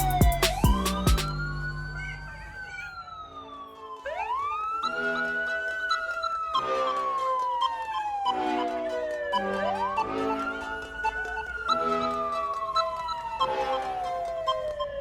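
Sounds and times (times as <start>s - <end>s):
toy siren wailing: 0.0s - 15.0s.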